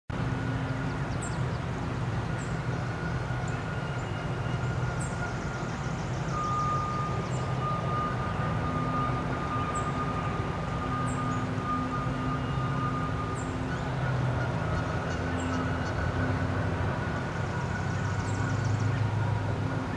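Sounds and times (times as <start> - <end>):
mechanical drone with high whine: 0.2 - 19.9.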